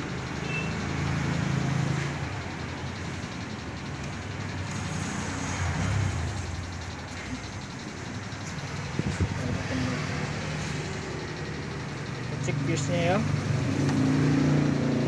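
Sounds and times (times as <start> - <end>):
vehicle engines going by: 0.0 - 15.0.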